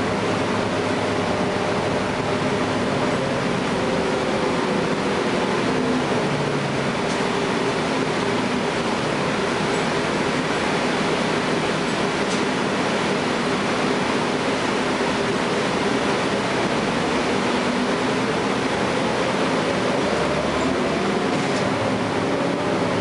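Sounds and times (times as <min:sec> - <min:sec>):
bus diesel engine running: 0:00.0 - 0:23.0
road noise: 0:00.0 - 0:23.0.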